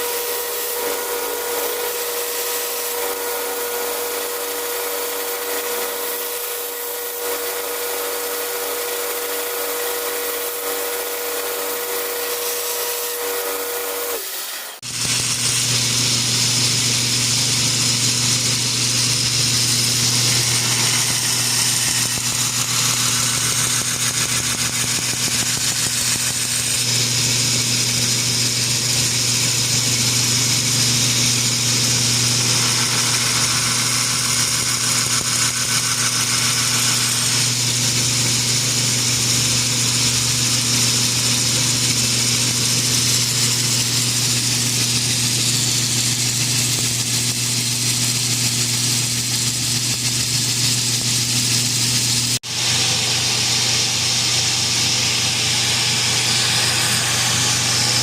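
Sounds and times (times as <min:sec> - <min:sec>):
workshop machine humming and hissing: 0:00.0 - 0:58.0.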